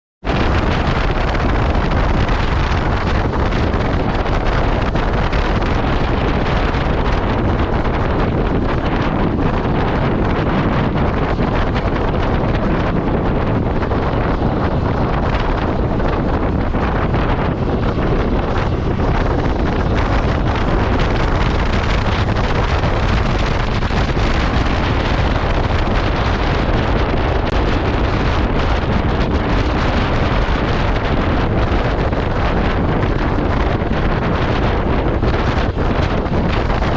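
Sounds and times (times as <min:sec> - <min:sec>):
wind rushing over microphone: 0:00.2 - 0:36.9
motorcycle engine running: 0:00.4 - 0:36.9.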